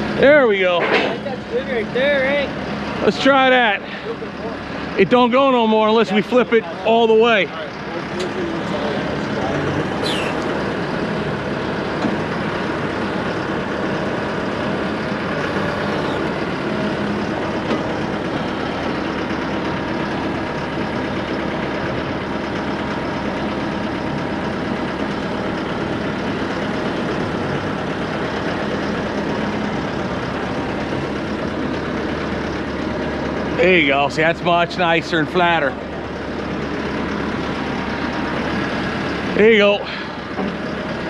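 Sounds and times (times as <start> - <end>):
heavy engine idling: 0.0 - 41.0.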